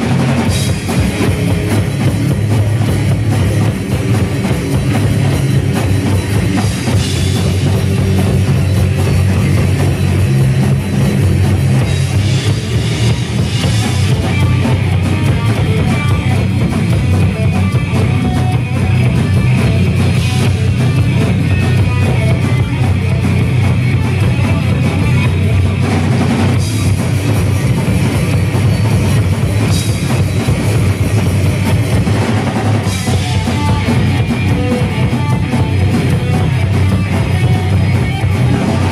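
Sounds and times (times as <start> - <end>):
bass guitar: 0.0 - 38.9
distorted electric guitars: 0.0 - 38.9
drum kit: 0.0 - 38.9.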